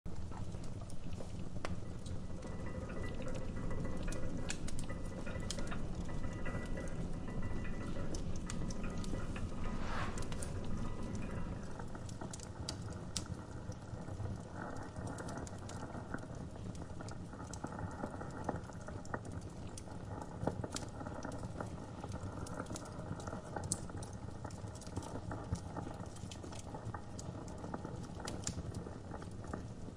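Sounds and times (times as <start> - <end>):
wood fire crackling: 0.1 - 29.9.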